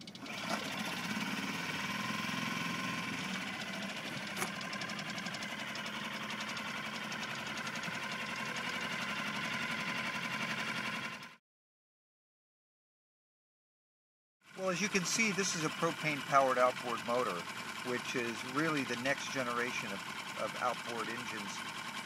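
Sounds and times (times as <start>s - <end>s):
outboard motor running: 0.0s - 11.4s, 14.5s - 22.0s
propeller churning water: 0.0s - 11.4s, 14.5s - 22.0s.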